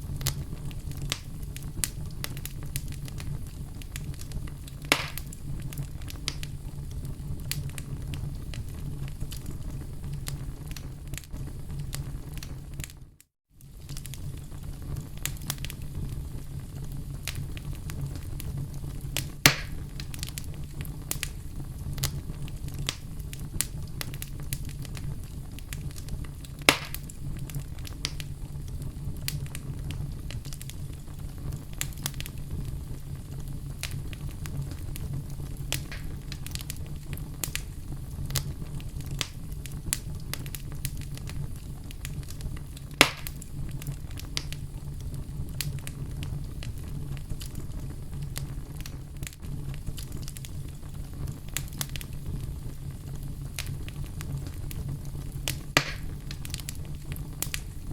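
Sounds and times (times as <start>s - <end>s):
loud pops of burning wood: 0.0s - 13.0s, 13.6s - 57.9s
campfire crackling: 0.0s - 57.9s.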